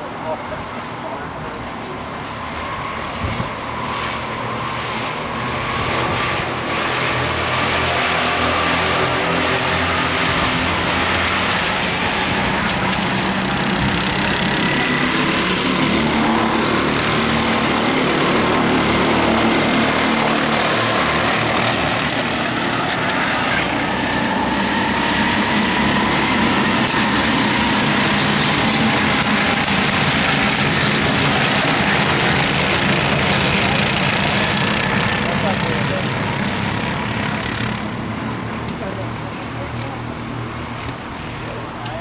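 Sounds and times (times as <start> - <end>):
go-kart engines racing: 0.0 - 42.0.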